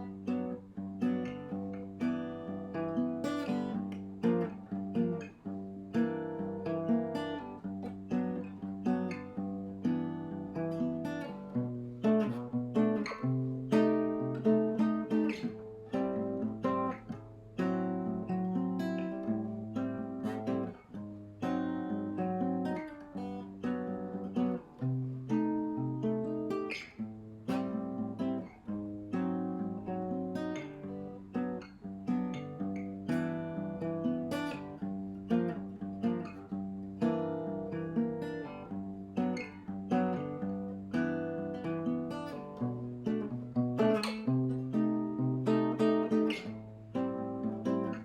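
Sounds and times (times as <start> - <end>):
acoustic guitar music: 0.0 - 48.0.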